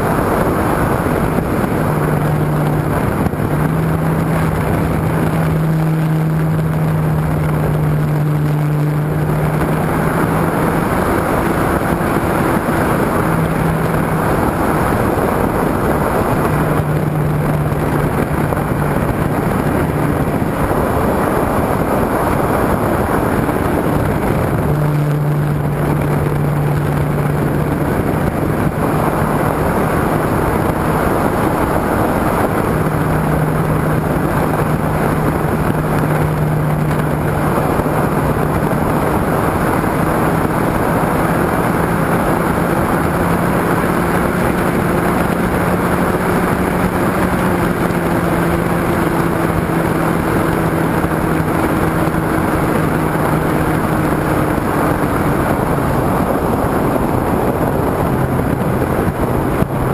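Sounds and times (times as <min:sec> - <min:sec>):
model aircraft motor humming: 0:00.0 - 0:59.9.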